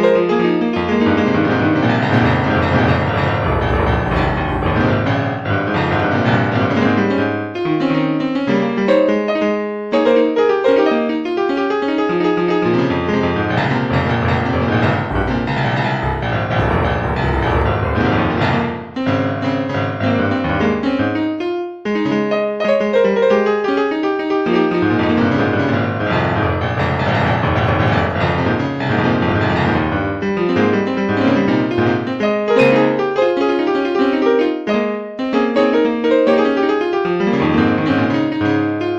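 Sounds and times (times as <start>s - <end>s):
piano music: 0.0s - 21.5s, 22.1s - 38.9s.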